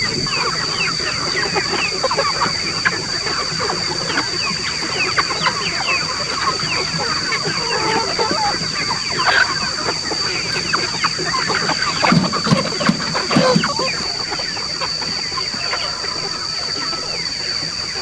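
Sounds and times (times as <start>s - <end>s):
chickens peeping and clucking: 0.0s - 18.0s.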